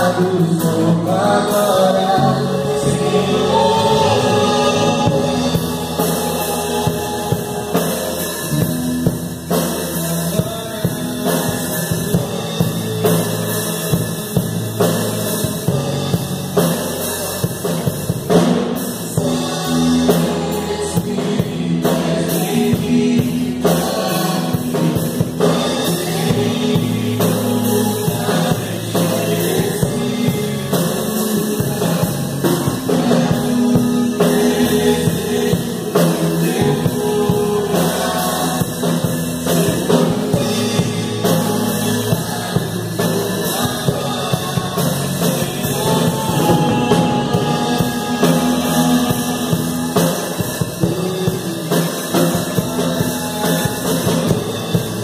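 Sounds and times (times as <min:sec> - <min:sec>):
steady drum beat: 0:00.0 - 0:55.0
instrumental accompaniment: 0:01.1 - 0:55.0.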